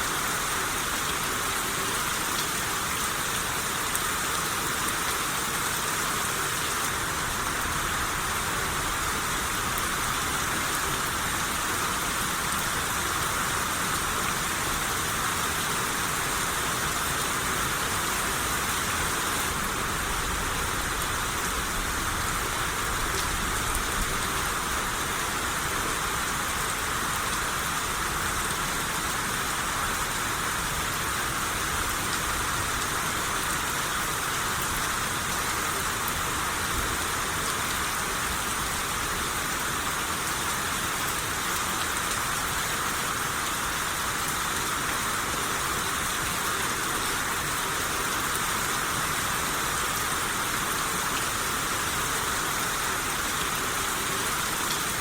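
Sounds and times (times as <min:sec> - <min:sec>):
rain shower hiss: 0:00.0 - 0:55.0.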